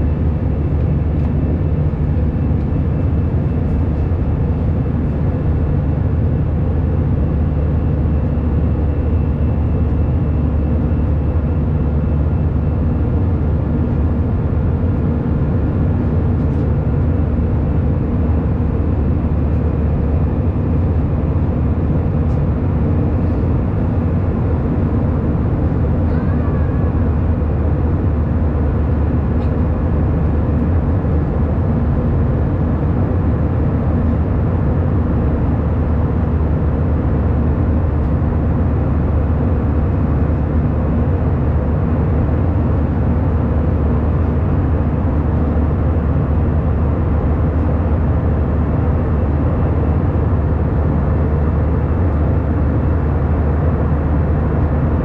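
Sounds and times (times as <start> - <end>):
jet engine cabin roar: 0.0 - 55.0.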